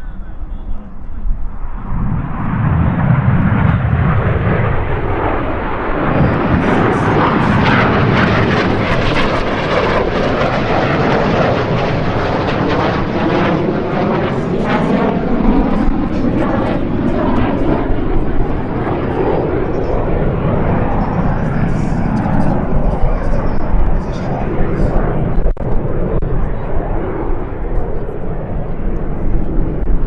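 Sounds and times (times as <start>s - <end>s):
jet engines passing overhead: 0.0s - 30.0s.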